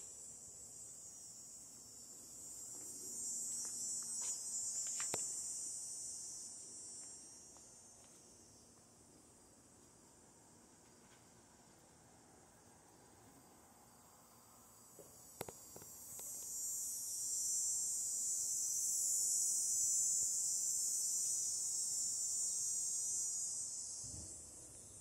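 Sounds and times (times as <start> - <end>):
high-pitched insect drone: 0.0 - 9.6, 12.7 - 25.0.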